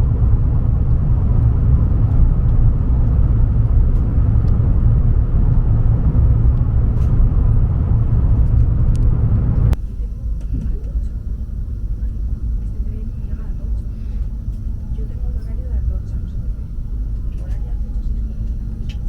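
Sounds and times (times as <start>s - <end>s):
high-speed train rumbling: 0.0s - 19.0s.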